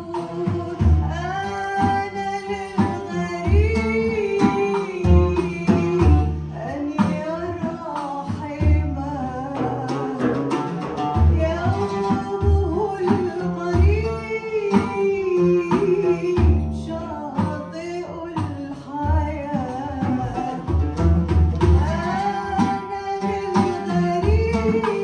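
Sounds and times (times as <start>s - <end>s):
oud: 0.0s - 25.0s.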